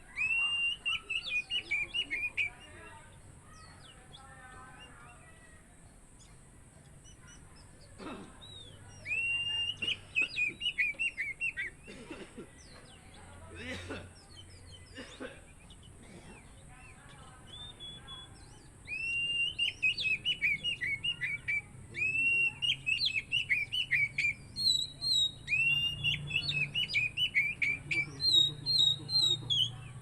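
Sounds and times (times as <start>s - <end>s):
bird singing loudly: 0.0s - 5.6s, 6.8s - 11.9s, 14.2s - 30.0s.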